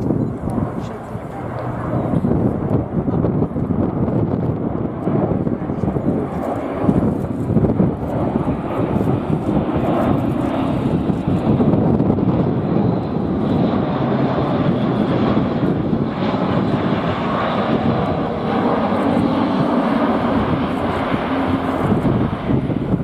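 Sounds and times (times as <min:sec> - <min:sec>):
turboprop aircraft flying overhead: 0:00.0 - 0:23.0.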